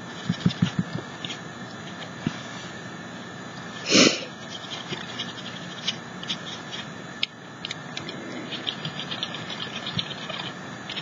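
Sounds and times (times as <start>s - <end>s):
faint scratches and ticks: 0.0s - 2.8s, 4.4s - 11.0s.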